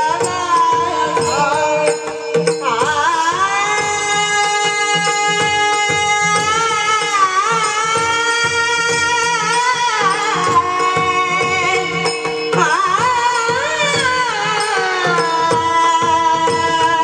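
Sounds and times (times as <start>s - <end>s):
girl singing: 0.0s - 17.0s
tabla: 0.0s - 17.0s.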